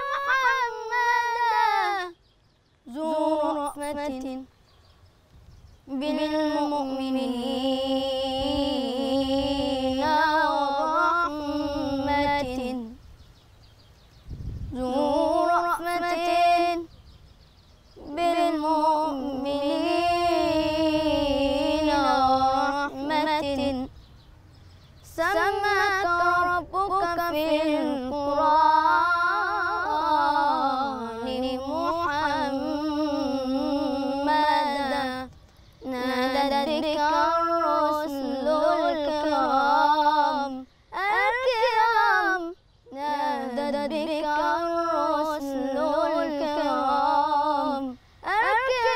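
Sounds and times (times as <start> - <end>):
boy chanting religious song: 0.0 - 2.2, 2.9 - 4.6, 5.8 - 13.1, 14.7 - 16.9, 17.9 - 24.0, 25.0 - 48.9.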